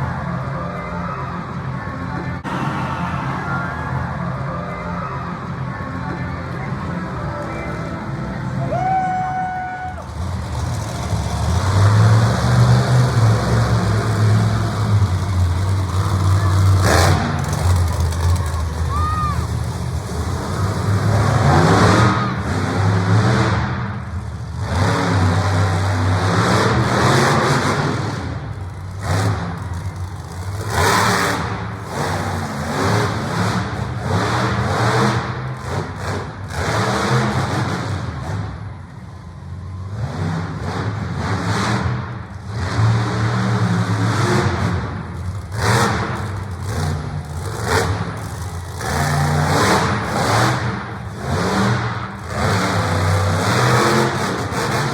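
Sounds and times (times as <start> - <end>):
truck engine revving: 10.0 - 54.9.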